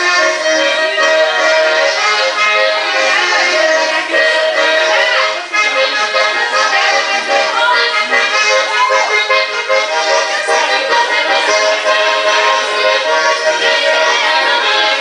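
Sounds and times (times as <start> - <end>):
accordion music: 0.0 - 15.0
person singing: 0.0 - 15.0.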